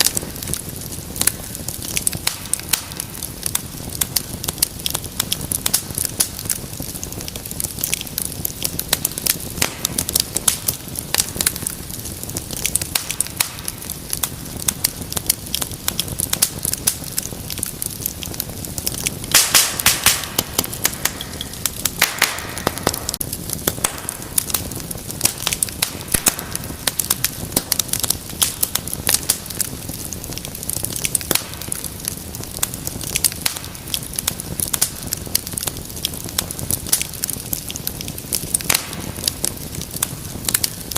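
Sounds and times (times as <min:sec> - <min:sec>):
low fire hiss: 0:00.0 - 0:40.9
wood fire crackling and popping: 0:00.0 - 0:40.9.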